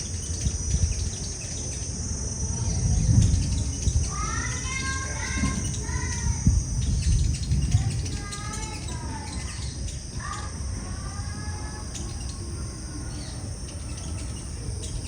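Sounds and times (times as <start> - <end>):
birds chirping: 0.0 - 15.0
high insect drone: 0.0 - 15.0.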